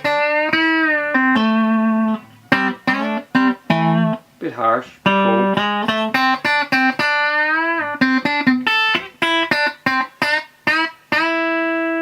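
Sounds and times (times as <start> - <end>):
electric guitar chords and notes: 0.0 - 4.4, 5.0 - 12.0.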